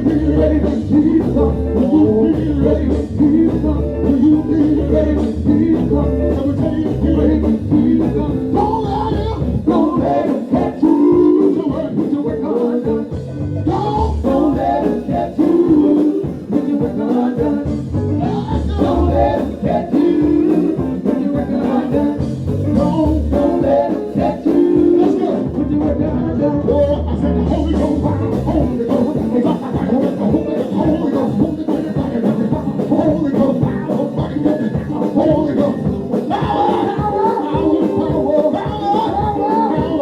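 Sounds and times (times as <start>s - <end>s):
band with guitar playing: 0.0s - 40.0s
gospel group singing: 0.0s - 40.0s.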